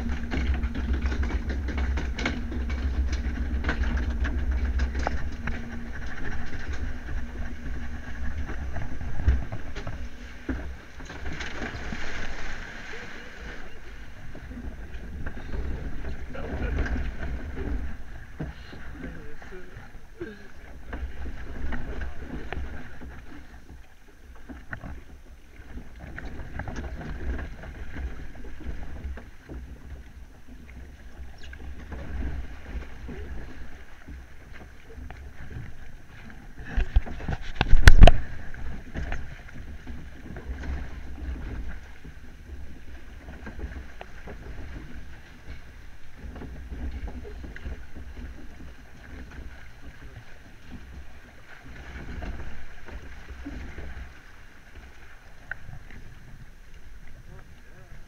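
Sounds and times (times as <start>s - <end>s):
water rushing and sloshing: 0.0s - 58.0s
wind rumble on microphone: 0.0s - 58.0s.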